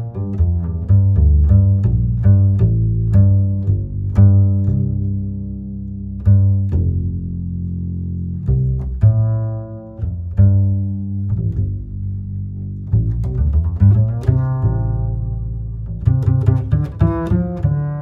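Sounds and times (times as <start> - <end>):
low string background music: 0.0 - 18.0.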